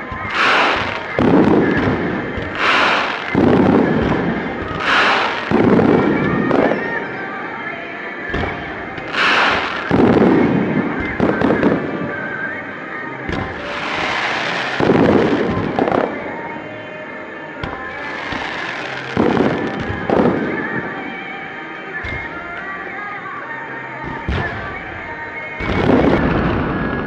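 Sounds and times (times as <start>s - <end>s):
fireworks booming and crackling: 0.0s - 22.8s, 24.0s - 27.0s.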